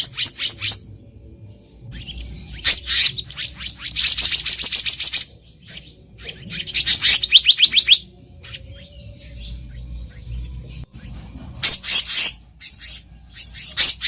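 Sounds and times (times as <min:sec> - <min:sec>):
bird singing high sharp notes: 0:01.6 - 0:14.0.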